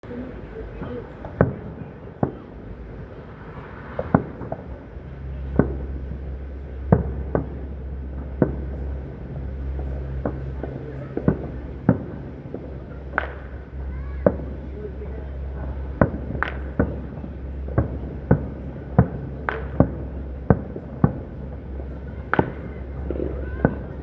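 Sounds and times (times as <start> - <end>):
fireworks bangs: 0.0 - 24.0
low steady hum: 0.0 - 24.0.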